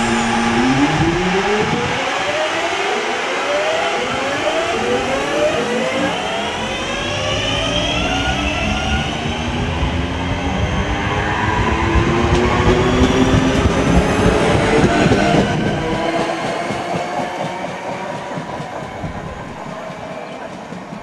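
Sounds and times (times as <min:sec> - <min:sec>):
electric train motors whining: 0:00.0 - 0:21.0
wheels rumbling on rail: 0:03.7 - 0:21.0.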